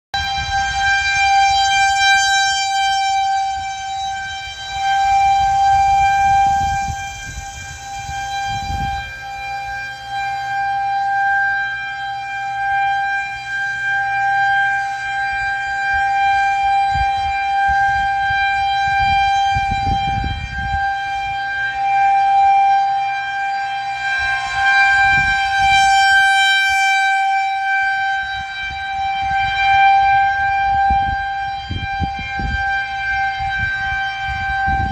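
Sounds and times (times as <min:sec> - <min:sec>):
outdoor warning siren steady tone: 0:00.1 - 0:34.9.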